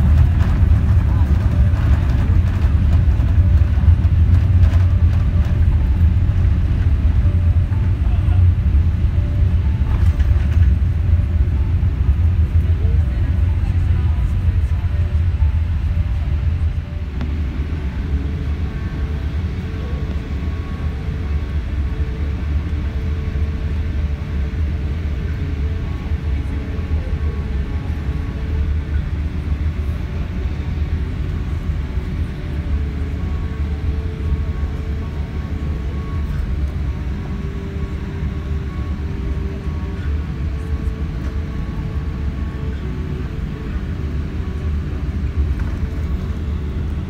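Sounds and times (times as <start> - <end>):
aircraft cabin rumble: 0.0 - 47.0
faint steady tones: 0.0 - 47.0.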